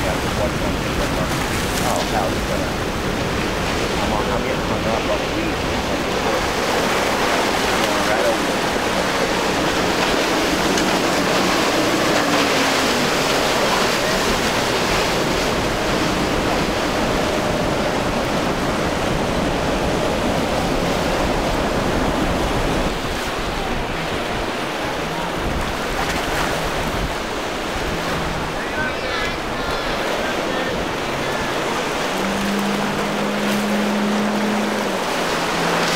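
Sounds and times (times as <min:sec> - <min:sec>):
wind buffeting microphone: 0:00.0 - 0:35.8
choppy sea and surf: 0:00.0 - 0:35.9
faint outboard motors: 0:00.0 - 0:35.9.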